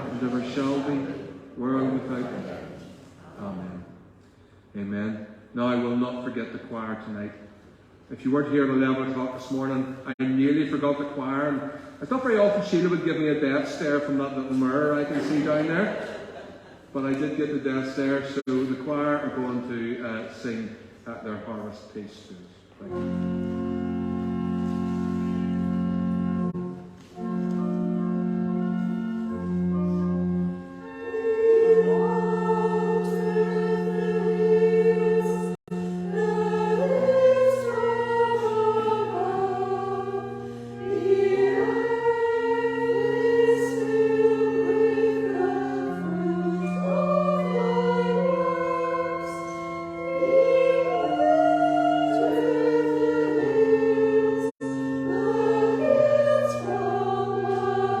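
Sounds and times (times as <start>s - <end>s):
organ chords: 0.0s - 2.8s, 3.4s - 21.4s, 22.7s - 58.0s
church choir singing: 0.0s - 4.0s, 8.2s - 21.4s, 22.8s - 58.0s.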